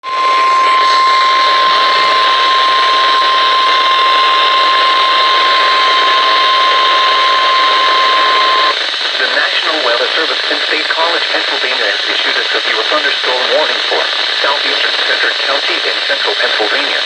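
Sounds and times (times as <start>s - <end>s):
heavy radio static: 0.0s - 17.0s
steady high warning tone: 0.0s - 17.0s.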